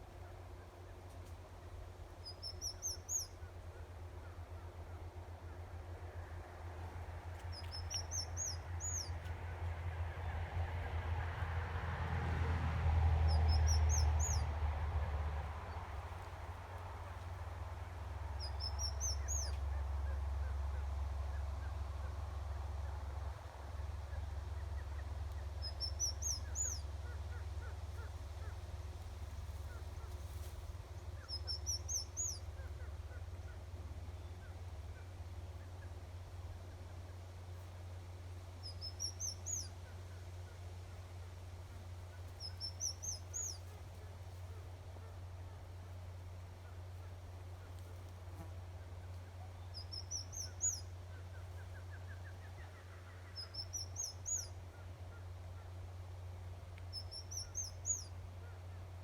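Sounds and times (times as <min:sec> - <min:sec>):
low steady rumble: 0:00.0 - 0:59.0.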